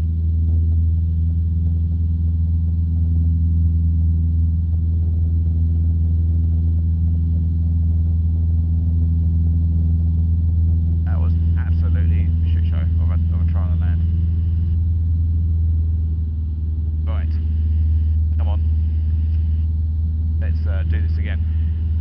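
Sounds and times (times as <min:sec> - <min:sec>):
light aircraft engine drone in cabin: 0:00.0 - 0:22.0.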